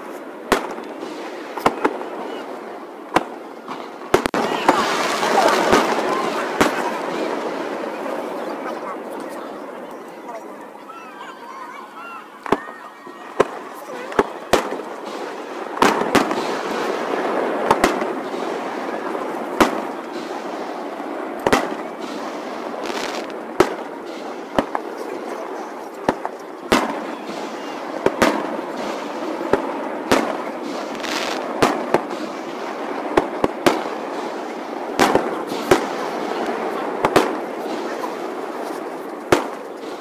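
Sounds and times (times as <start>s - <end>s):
fireworks banging: 0.0s - 40.0s
steady background noise: 0.0s - 40.0s.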